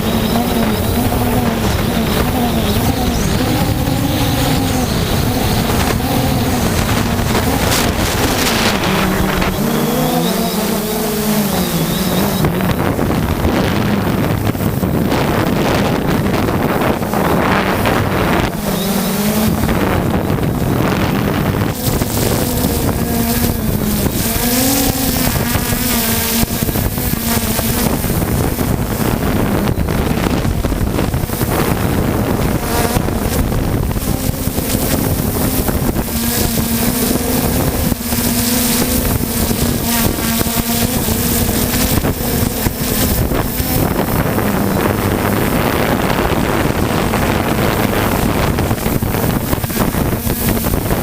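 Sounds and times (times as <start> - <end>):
quadcopter propellers buzzing: 0.0 - 51.0
wind buffeting microphone: 0.0 - 51.0.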